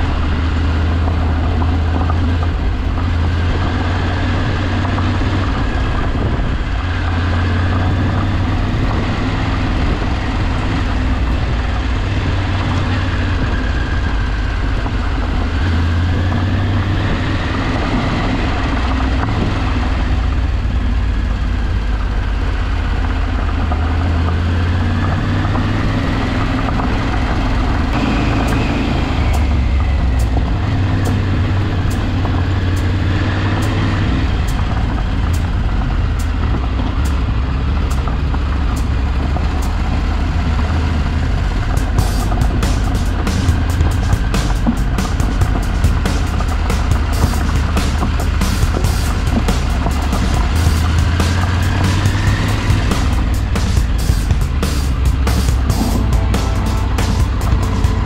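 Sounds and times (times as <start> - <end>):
vehicle engine rumble and whine: 0.0 - 58.0.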